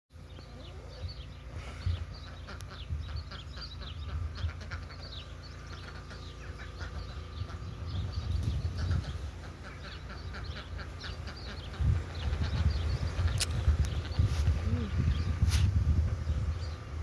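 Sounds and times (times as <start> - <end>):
birds chirping: 0.1 - 17.0
steady low rumble: 0.2 - 17.0.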